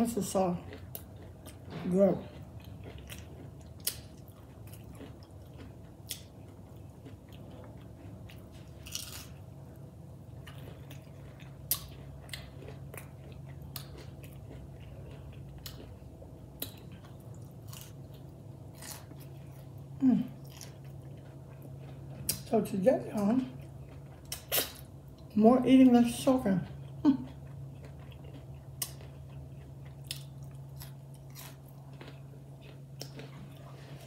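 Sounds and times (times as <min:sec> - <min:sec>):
person chewing crunchy food: 0:00.0 - 0:25.3, 0:26.6 - 0:34.0
low steady hum: 0:00.0 - 0:34.0.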